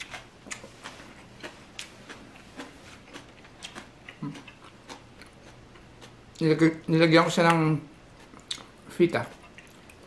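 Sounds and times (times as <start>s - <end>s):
person chewing crunchy food: 0.0s - 6.5s, 7.5s - 10.0s.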